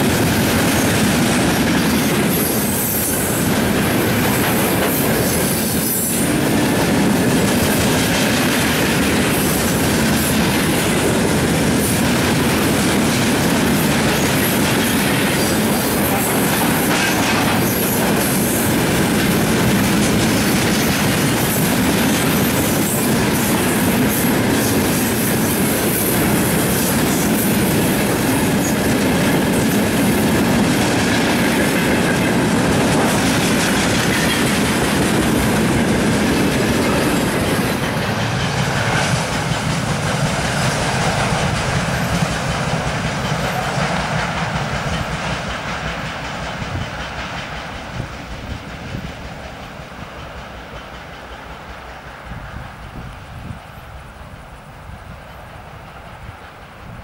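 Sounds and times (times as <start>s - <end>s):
freight train rolling past: 0.0s - 57.0s
wheels clacking on rails: 0.0s - 57.0s.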